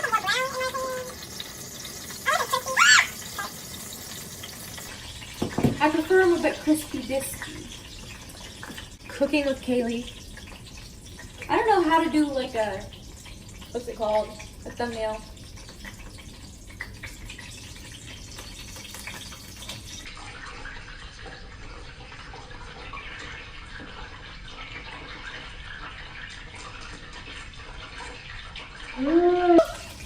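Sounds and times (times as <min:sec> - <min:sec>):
dumplings sizzling in oil: 0:00.0 - 0:30.0.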